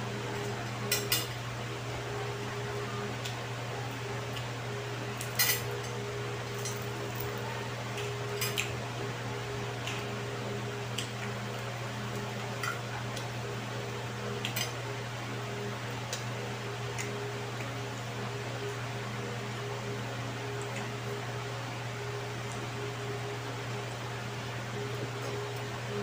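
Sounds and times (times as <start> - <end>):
electric fan hum: 0.0 - 26.0.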